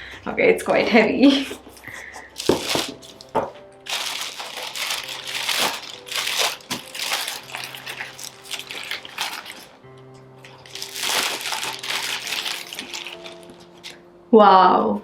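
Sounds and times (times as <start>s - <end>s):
faint background music: 0.0s - 15.0s
packaging rustling and crinkling: 1.4s - 14.0s.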